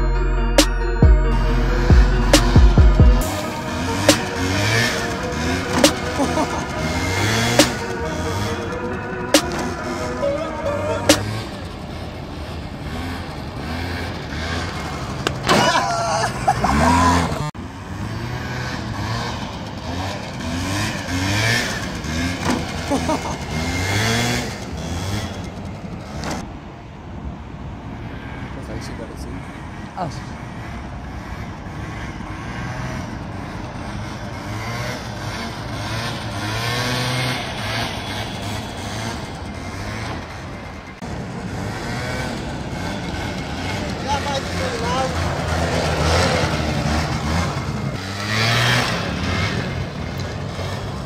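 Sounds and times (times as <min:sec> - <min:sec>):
scooter engine revving: 0:01.1 - 0:26.5, 0:30.3 - 0:51.0.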